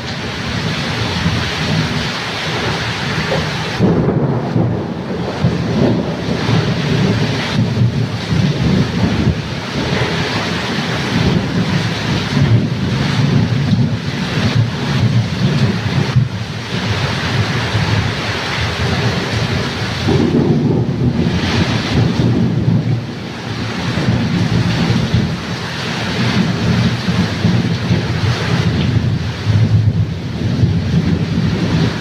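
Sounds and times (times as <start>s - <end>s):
deep thunder rumble: 0.0s - 32.0s
gusting wind: 0.0s - 32.0s
heavy rain: 0.0s - 32.0s.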